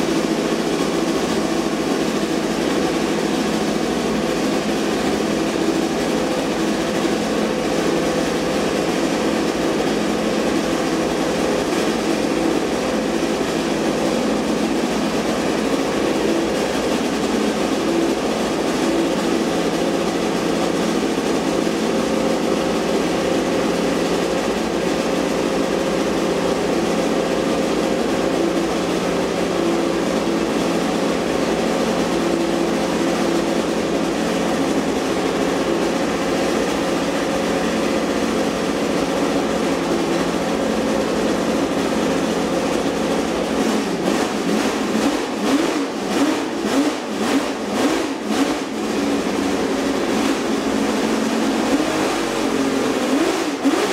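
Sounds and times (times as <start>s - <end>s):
race car engine idling and revving: 0.0s - 53.9s.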